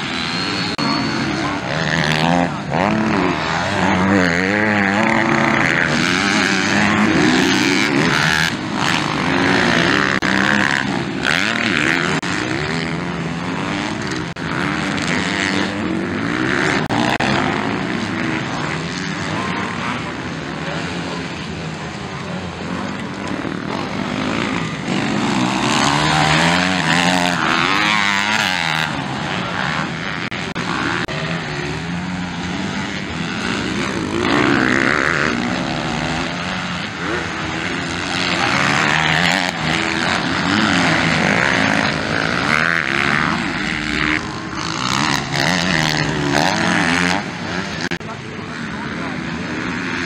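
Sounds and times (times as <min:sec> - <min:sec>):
motocross bike engines revving: 0:00.0 - 0:50.0.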